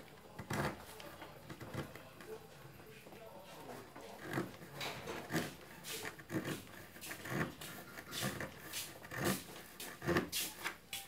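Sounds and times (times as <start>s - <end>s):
knife sawing through plastic: 0.0s - 2.1s, 3.8s - 10.7s.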